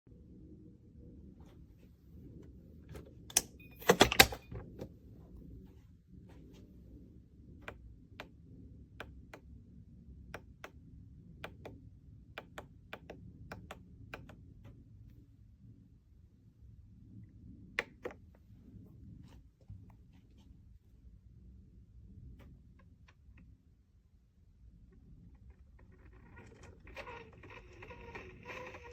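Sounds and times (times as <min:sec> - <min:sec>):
low hum: 0:00.1 - 0:28.9.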